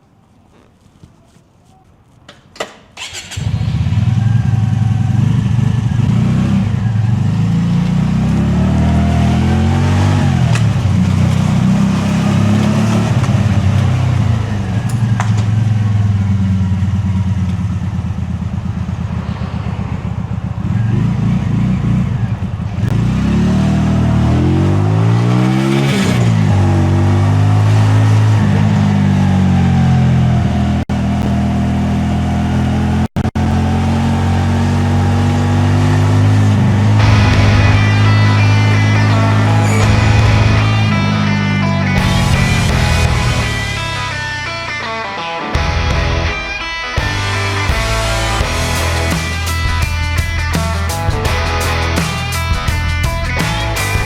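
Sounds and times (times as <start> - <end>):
motorcycle engine revving: 3.0 - 54.0.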